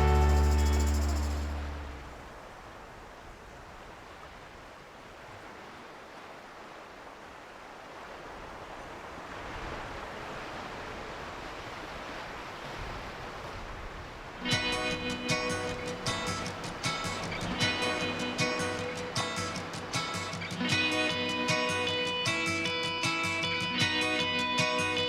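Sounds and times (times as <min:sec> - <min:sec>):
ocean surf washing: 0:00.0 - 0:25.0.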